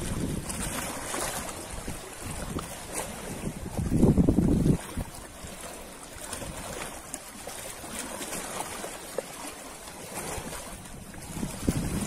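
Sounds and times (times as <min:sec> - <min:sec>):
ocean waves on shore: 0:00.0 - 0:12.0
wind buffeting microphone: 0:00.0 - 0:12.0.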